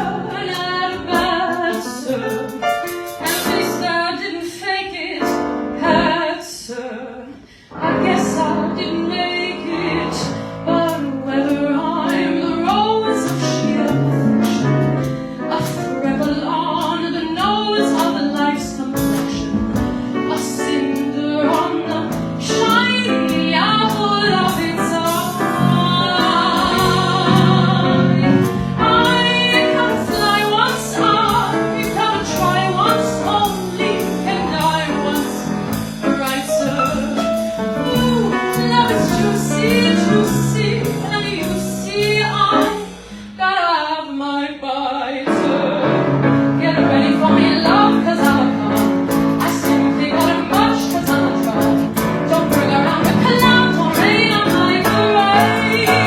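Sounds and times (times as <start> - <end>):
musical accompaniment: 0.0 - 56.0.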